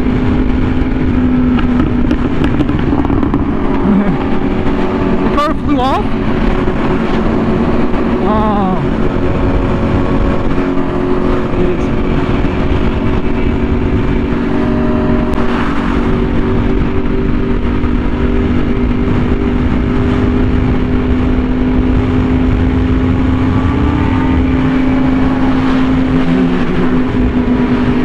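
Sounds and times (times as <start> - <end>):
low rush of wind: 0.0 - 28.0
motorcycle engine at high rpm: 0.0 - 28.0.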